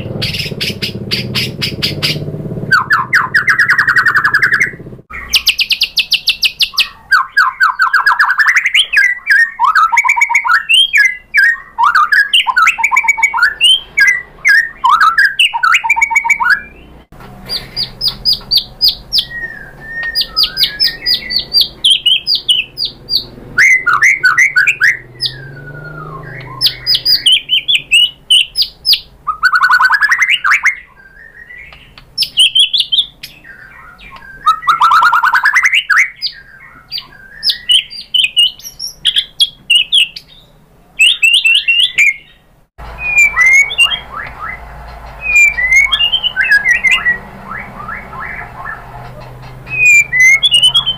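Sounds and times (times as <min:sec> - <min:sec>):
songbird singing trills and whistles: 0:00.0 - 0:50.9.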